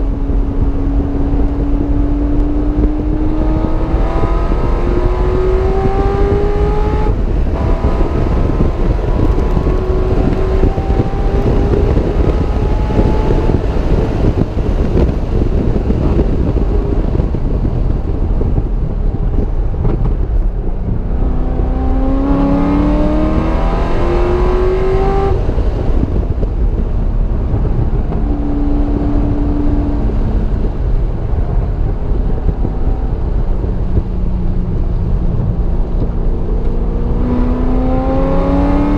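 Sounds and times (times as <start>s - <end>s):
car engine revving: 0.0s - 38.9s
wind and road noise: 0.0s - 38.9s.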